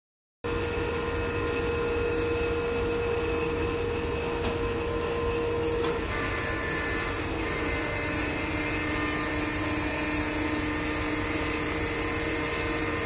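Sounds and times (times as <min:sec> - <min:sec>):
diesel locomotive humming: 0:00.5 - 0:13.0
high whining tones: 0:00.5 - 0:13.0.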